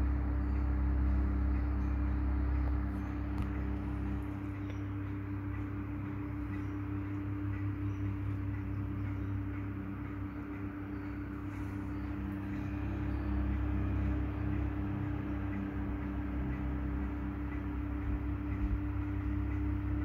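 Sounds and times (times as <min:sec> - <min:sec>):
electric fan motor hum: 0:00.0 - 0:20.0
whoosh of spinning fan blades: 0:00.0 - 0:20.0.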